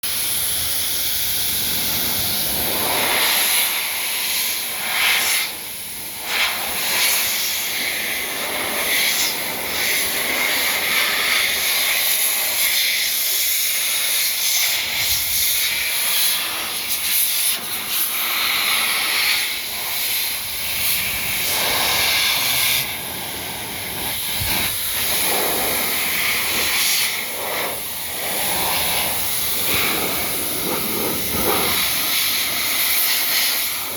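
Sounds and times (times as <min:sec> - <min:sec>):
blower hissing air: 0:00.0 - 0:33.9.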